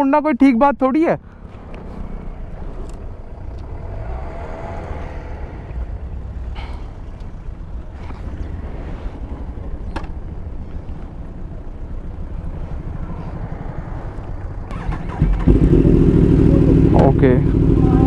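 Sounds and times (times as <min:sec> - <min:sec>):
motorcycle engine idling: 0:01.2 - 0:18.0.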